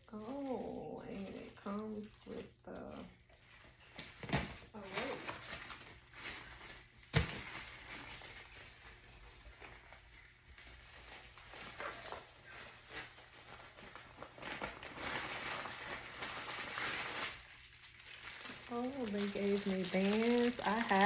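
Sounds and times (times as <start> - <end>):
packaging rustling: 0.0 - 21.0.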